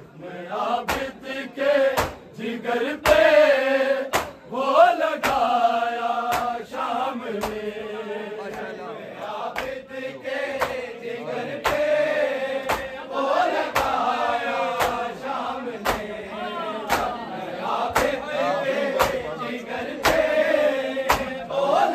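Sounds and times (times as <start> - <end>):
men chanting a lament: 0.0 - 21.9.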